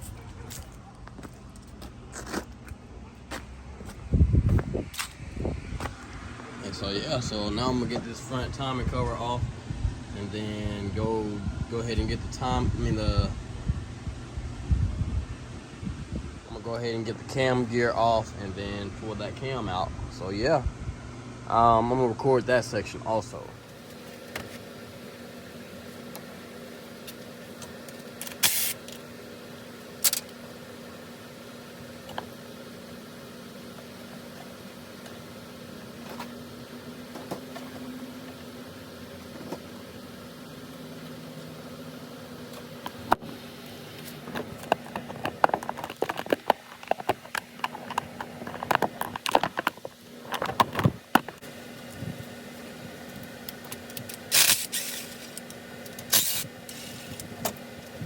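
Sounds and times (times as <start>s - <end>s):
fan hum: 0.0s - 58.0s.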